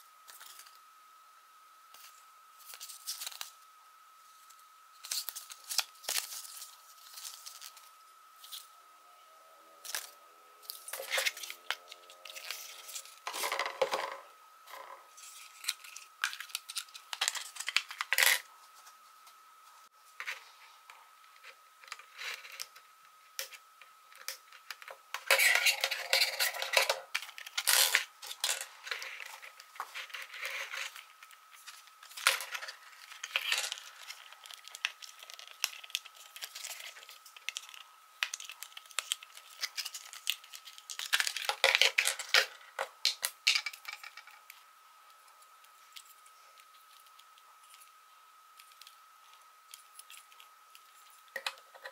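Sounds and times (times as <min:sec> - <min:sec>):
faint high whine: 0:00.0 - 0:51.9.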